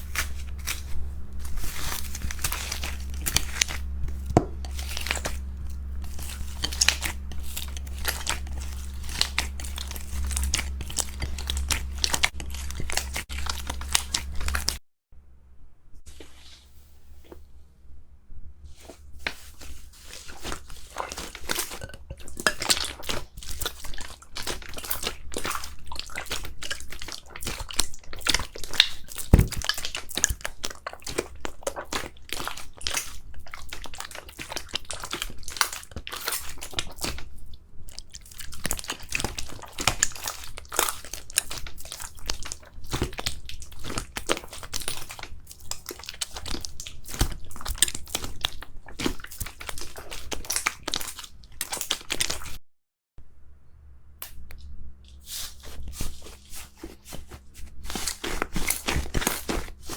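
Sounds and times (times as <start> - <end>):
crunchy slime crackling: 0.0 - 14.8, 18.8 - 52.6, 55.1 - 59.9.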